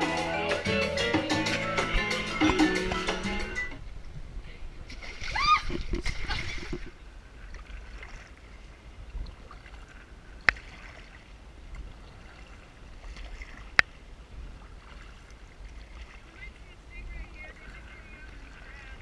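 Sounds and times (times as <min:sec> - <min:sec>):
faint water noise: 0:00.0 - 0:19.0.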